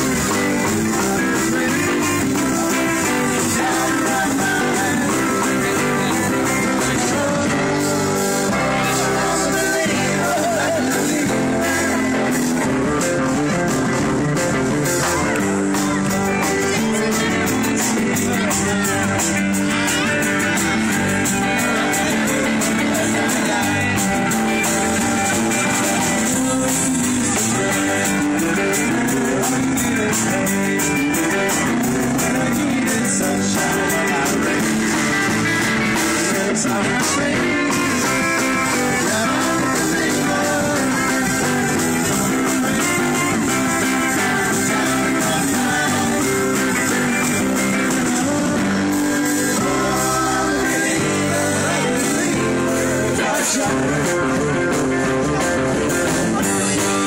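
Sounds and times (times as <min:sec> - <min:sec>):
amplified electric guitars: 0:00.0 - 0:57.0
drum kit: 0:00.0 - 0:57.0.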